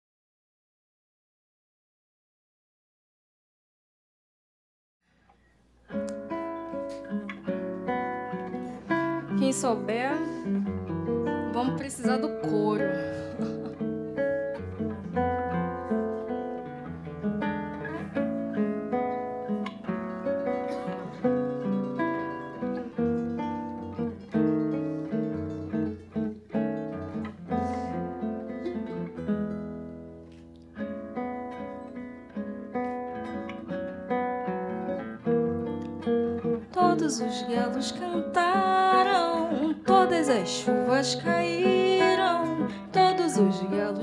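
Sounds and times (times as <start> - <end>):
acoustic guitar playing: 5.2 - 44.0.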